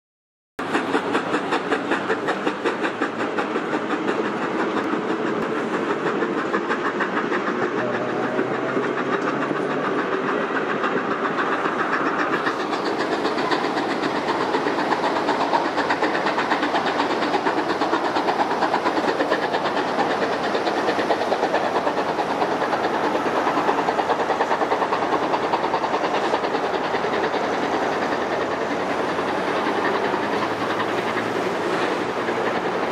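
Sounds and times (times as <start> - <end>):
steam train pulling out: 0.6 - 32.9.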